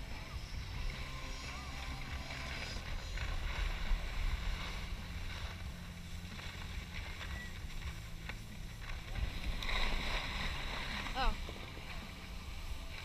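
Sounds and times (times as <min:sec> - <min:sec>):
skis sliding on snow: 0:00.0 - 0:13.0.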